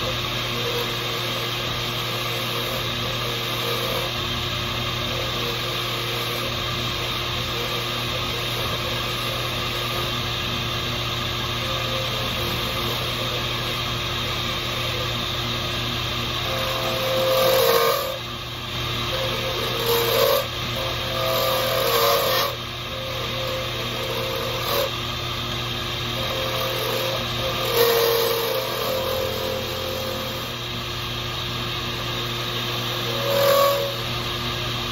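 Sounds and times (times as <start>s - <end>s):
power tool cutting antler: 0.0s - 34.9s
power tool motor running: 0.0s - 34.9s.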